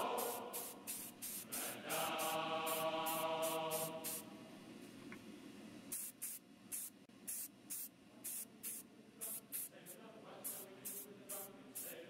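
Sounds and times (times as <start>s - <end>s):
spray paint hissing in bursts: 0.0s - 4.2s, 5.9s - 12.0s.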